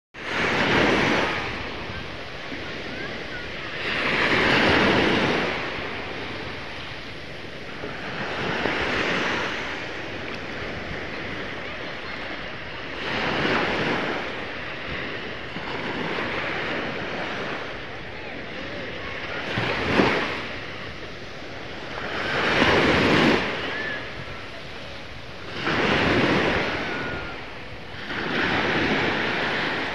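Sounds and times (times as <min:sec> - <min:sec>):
small waves washing on sand: 0:00.2 - 0:29.9.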